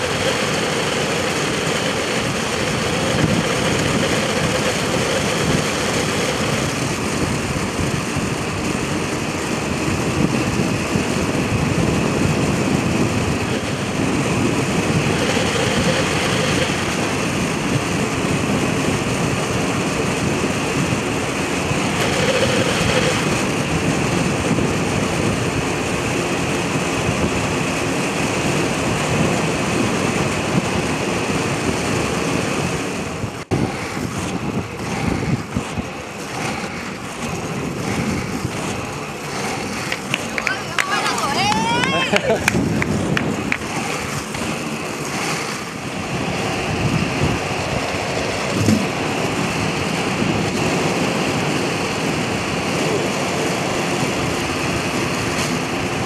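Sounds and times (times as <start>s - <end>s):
skate wheels rolling on asphalt: 0.0s - 56.0s
wind on microphone: 0.0s - 56.0s.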